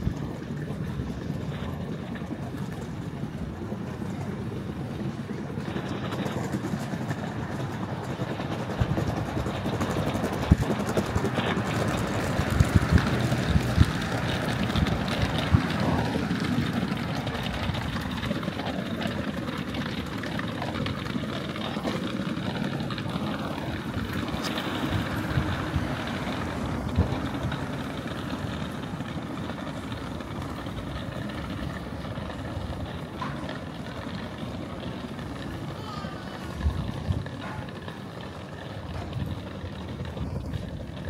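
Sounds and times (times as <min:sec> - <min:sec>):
faint voices: 0:00.0 - 0:41.0
low street rumble: 0:00.0 - 0:41.0.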